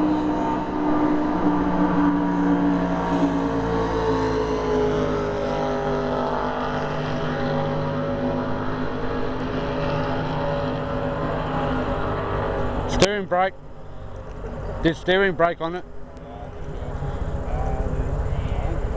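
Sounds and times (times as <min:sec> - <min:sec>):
boat engine at high revs: 0:00.0 - 0:18.9.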